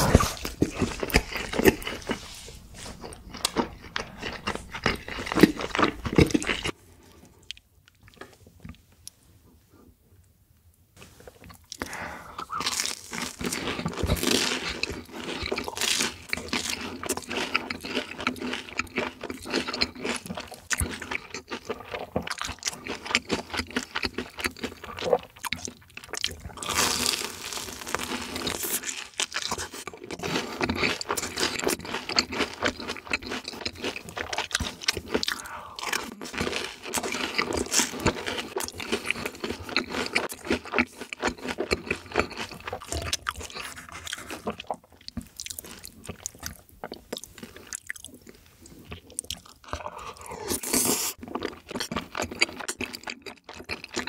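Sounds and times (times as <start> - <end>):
chewing with wet mouth sounds: 0.0 - 6.8, 11.4 - 27.2, 27.9 - 54.0
fried food crunching: 0.0 - 6.8, 12.5 - 54.0.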